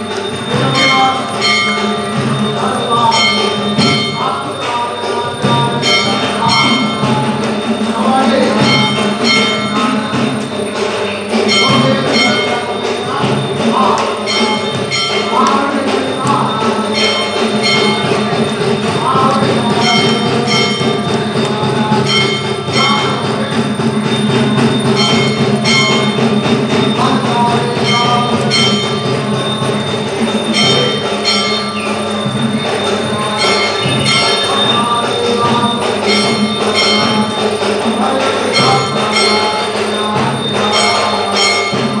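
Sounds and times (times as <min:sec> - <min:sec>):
metal bells struck rhythmically: 0:00.0 - 0:42.0.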